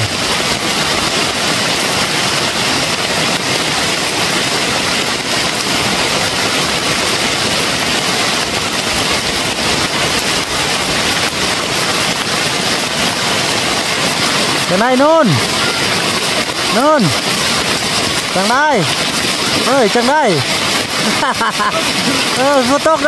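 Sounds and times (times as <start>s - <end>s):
heavy rain on a tarp roof: 0.0s - 23.0s.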